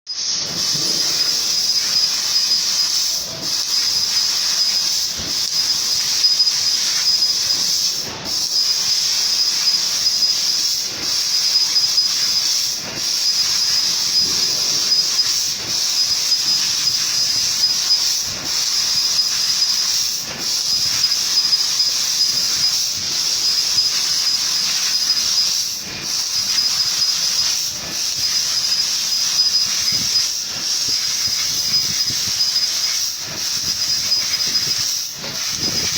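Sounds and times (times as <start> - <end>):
machine hissing and whining: 0.1 - 35.9.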